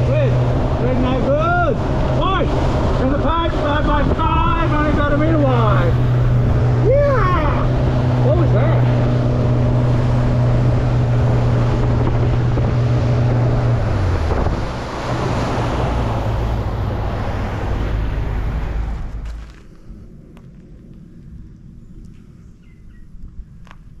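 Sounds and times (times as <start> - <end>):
outboard motor running: 0.0 - 19.8
water rushing along hull: 0.0 - 22.1
wind on microphone: 0.0 - 24.0.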